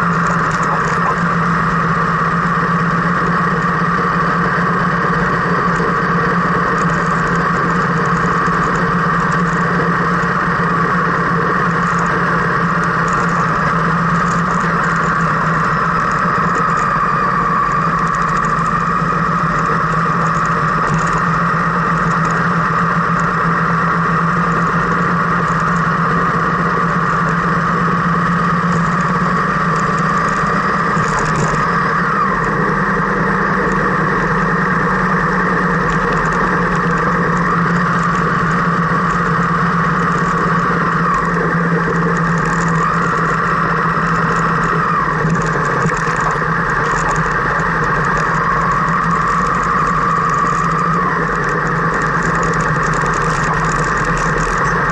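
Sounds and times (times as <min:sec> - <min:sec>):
car engine drone from inside cabin: 0:00.0 - 0:54.9.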